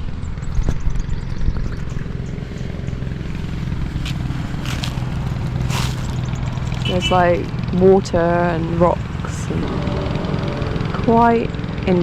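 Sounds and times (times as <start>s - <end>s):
motor droning: 0.7s - 12.0s.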